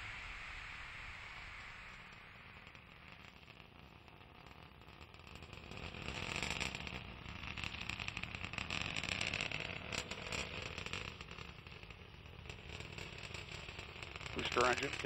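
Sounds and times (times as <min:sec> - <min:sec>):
distant rocket engine roar: 0:00.0 - 0:15.0.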